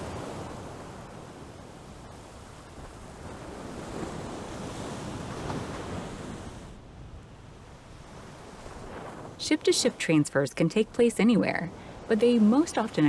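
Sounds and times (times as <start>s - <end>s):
rushing sea and wind: 0.0s - 13.0s.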